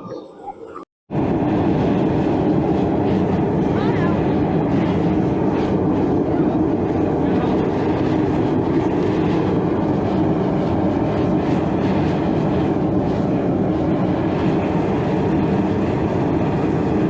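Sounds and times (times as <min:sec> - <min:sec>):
furnace burner rushing: 0:01.1 - 0:17.0.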